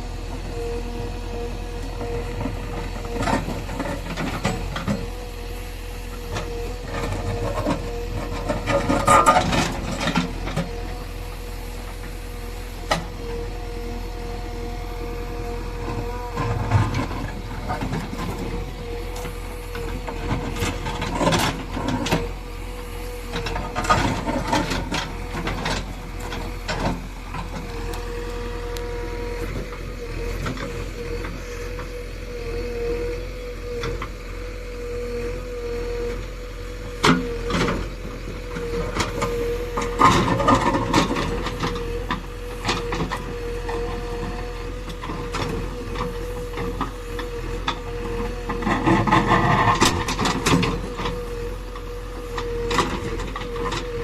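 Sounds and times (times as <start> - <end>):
diesel engine running with whine: 0.0 - 54.0.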